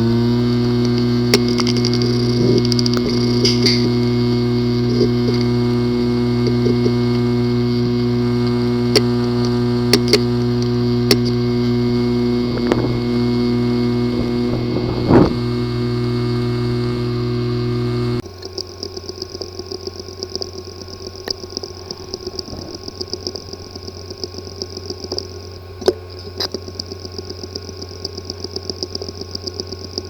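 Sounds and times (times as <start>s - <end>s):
hard drive buzzing: 0.0s - 30.0s
hard drive clicks: 0.0s - 30.0s.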